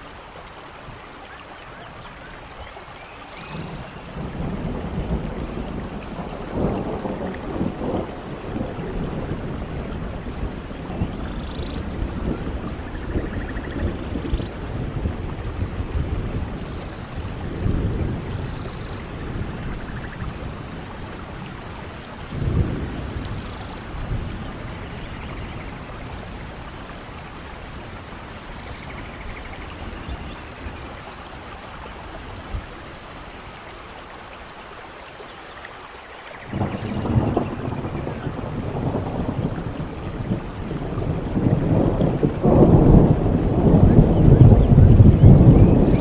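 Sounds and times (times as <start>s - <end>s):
steady rain: 0.0s - 46.0s
distant rolling thunder: 3.4s - 32.8s, 36.4s - 46.0s.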